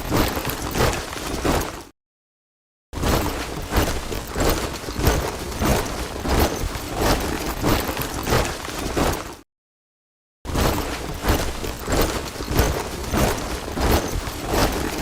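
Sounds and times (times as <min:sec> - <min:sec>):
soldiers marching boots crunching: 0:00.0 - 0:01.9, 0:03.1 - 0:09.4, 0:10.6 - 0:15.0.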